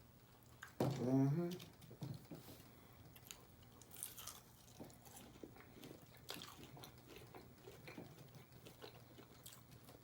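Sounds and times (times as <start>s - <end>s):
person chewing food: 1.5s - 10.0s.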